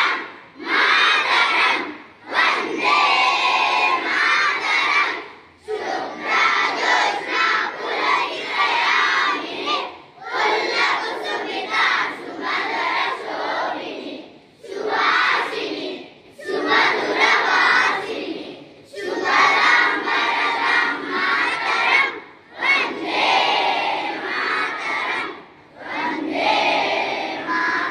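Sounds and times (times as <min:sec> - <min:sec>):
children chanting in unison: 0:00.0 - 0:27.9.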